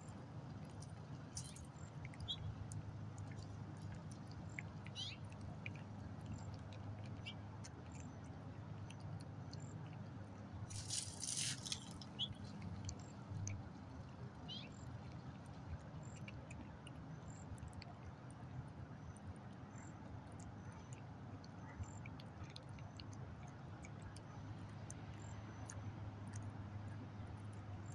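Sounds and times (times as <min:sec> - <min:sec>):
cat chewing and licking: 0:00.0 - 0:27.9.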